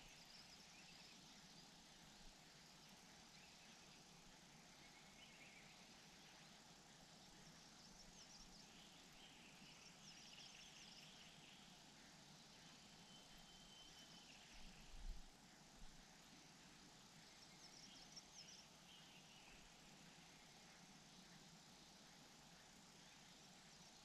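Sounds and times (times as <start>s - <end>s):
faint background hiss: 0.0s - 24.0s.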